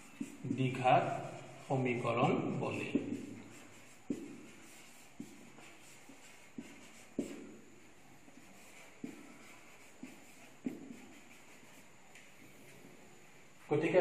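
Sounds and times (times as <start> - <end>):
marker scratching on whiteboard: 0.0 - 12.3.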